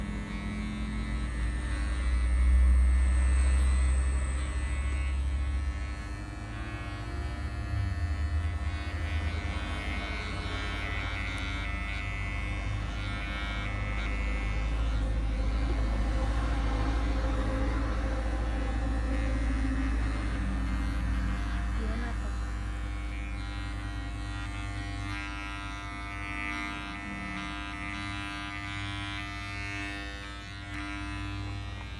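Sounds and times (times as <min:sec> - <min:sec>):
electric hair clipper buzzing: 0:00.0 - 0:31.9.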